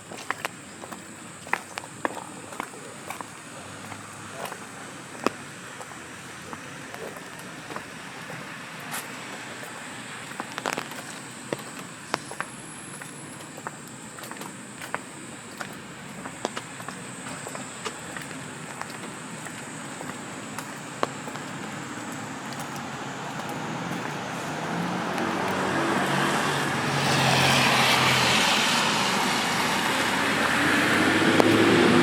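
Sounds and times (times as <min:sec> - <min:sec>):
car passing on wet road: 0:00.0 - 0:32.0.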